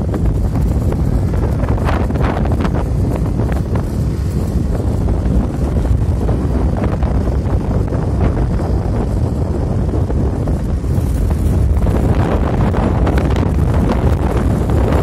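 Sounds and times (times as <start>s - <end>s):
car road noise: 0.0s - 15.0s
wind rumbling on microphone: 0.0s - 15.0s.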